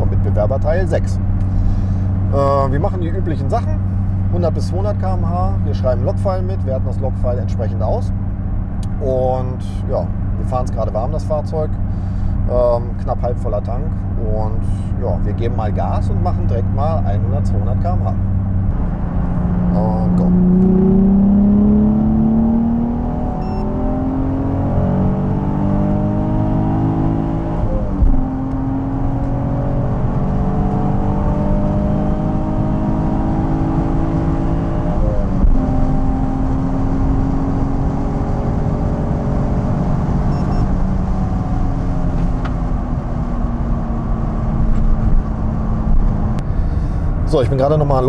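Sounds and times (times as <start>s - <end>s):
car engine at full throttle: 0.0s - 48.0s.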